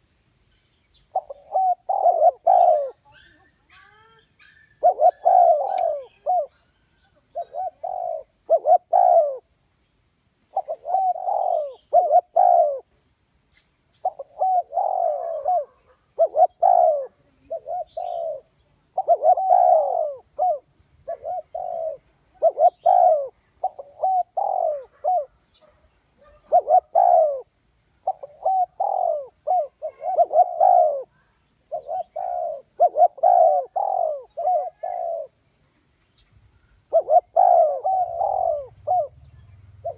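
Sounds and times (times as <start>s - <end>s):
dove cooing: 1.1s - 9.5s, 10.5s - 12.9s, 14.0s - 35.4s, 36.6s - 39.9s.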